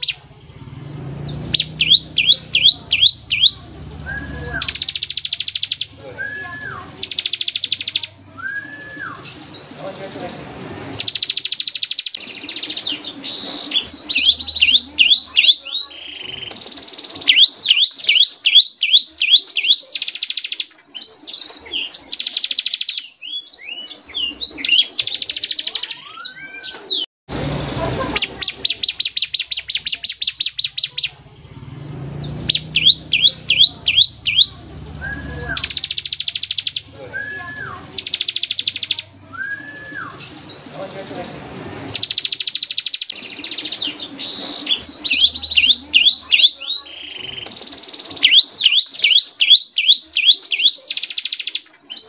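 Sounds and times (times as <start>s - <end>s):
bird singing rattling trills: 0.0s - 52.0s.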